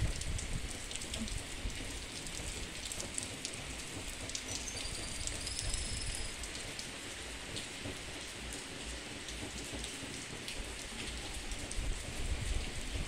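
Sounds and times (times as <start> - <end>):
rain drop taps: 0.0 - 6.9, 7.5 - 12.8
rain falling on trees: 0.0 - 13.0.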